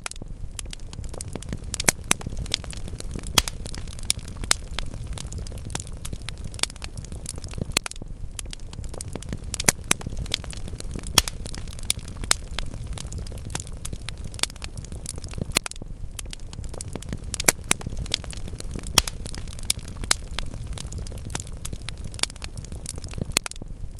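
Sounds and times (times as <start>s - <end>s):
logs crackling and popping: 0.0s - 23.9s
low rumble of flames: 0.0s - 23.9s.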